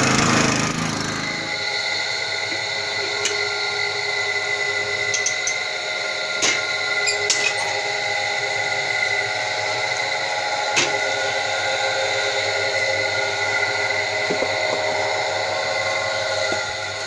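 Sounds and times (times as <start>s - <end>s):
press motor whining: 0.0s - 17.0s.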